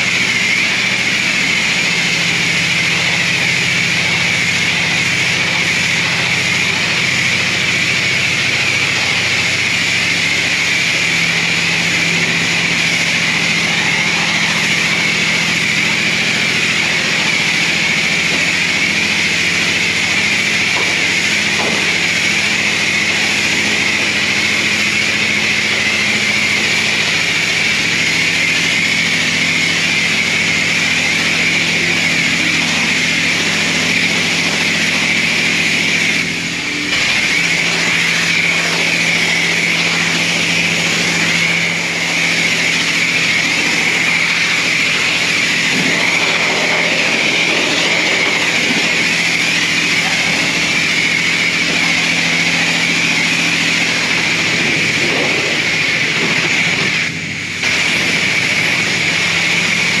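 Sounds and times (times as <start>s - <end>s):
high-pressure water spray: 0.0s - 60.0s
pump hum: 0.0s - 60.0s.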